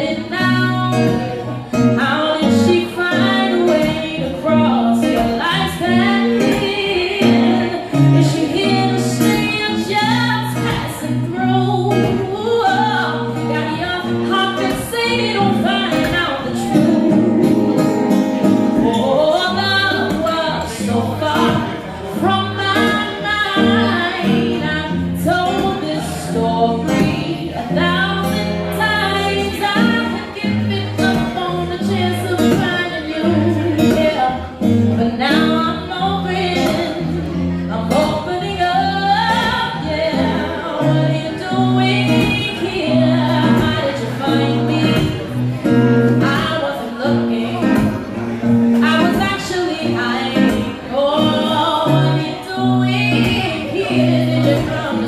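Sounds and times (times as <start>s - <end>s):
strummed acoustic guitar: 0.0s - 55.0s
woman singing into a microphone: 0.0s - 55.0s.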